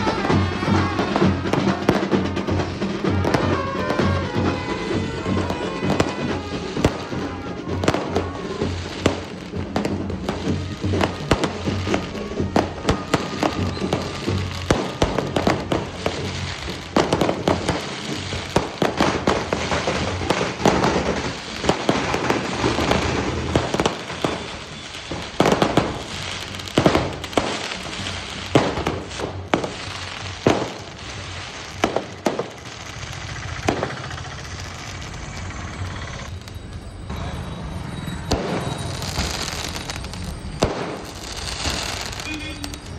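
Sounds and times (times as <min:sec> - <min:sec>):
firecrackers banging: 0:00.0 - 0:42.9.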